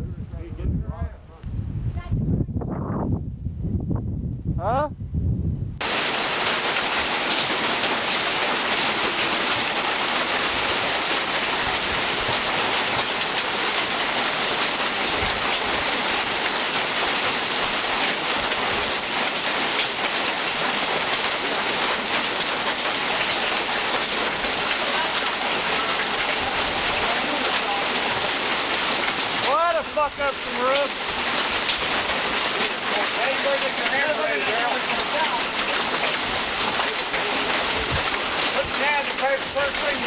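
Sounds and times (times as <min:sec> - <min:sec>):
heavy rain pouring: 0:05.8 - 0:40.0.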